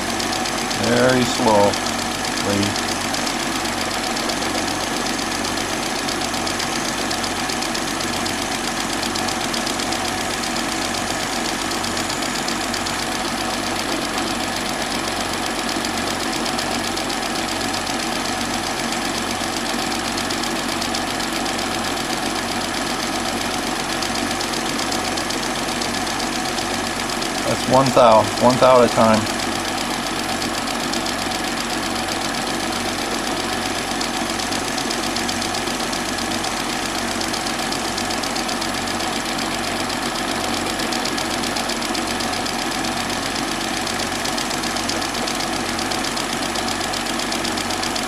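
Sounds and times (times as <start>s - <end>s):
small lathe motor hum: 0.0s - 48.0s.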